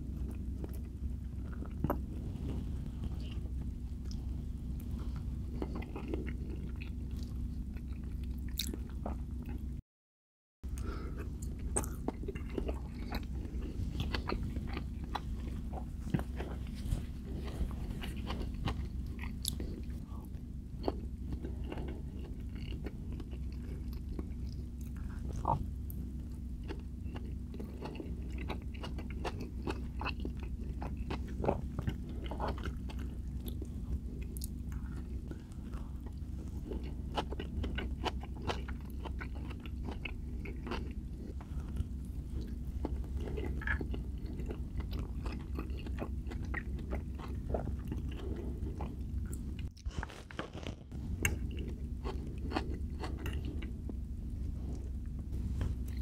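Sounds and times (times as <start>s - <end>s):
person chewing food: 0.0s - 9.7s, 10.7s - 56.0s
low hum: 0.0s - 9.8s, 10.6s - 56.0s.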